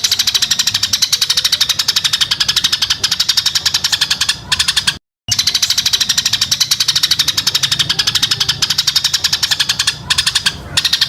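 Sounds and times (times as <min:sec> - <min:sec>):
songbird rapid repeated notes: 0:00.0 - 0:11.0.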